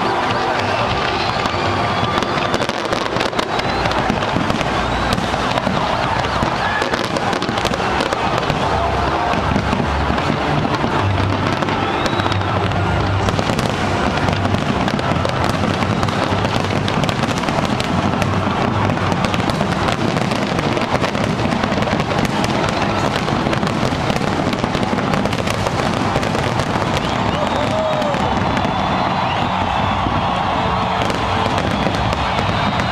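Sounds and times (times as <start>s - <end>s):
fireworks bangs and crackling: 0.0s - 32.9s
gliding firework whistle: 0.0s - 32.9s.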